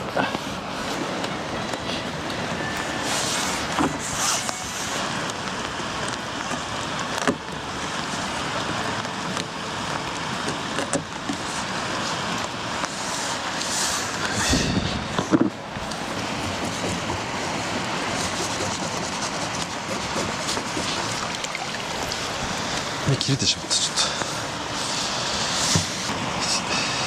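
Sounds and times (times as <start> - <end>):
outdoor rushing noise: 0.0 - 27.0.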